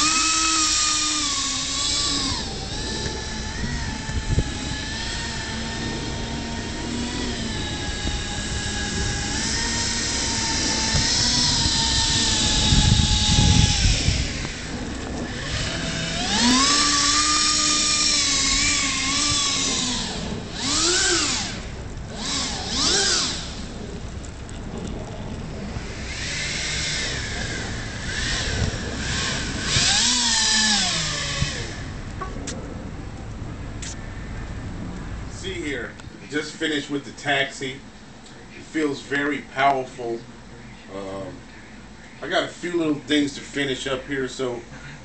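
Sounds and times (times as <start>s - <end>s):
electric ducted fans whining: 0.0s - 45.0s.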